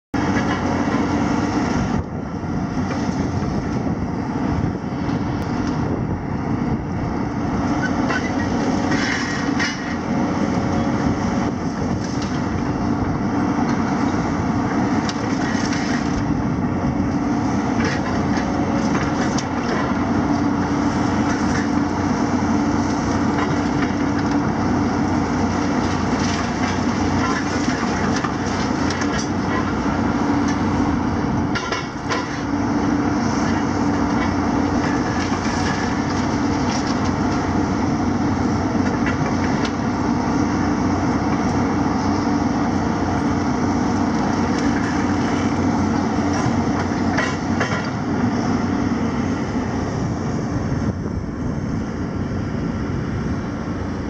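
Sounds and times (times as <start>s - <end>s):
excavator diesel engines running: 0.2s - 54.0s.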